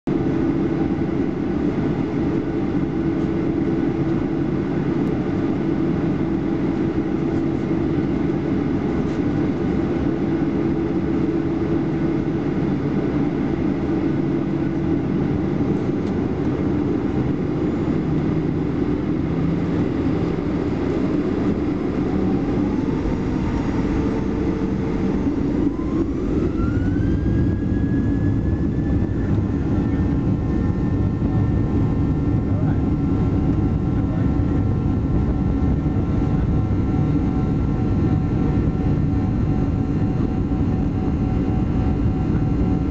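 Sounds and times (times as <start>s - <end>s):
jet cabin rumble: 0.1s - 42.9s
jet engine whine rising: 0.1s - 42.9s.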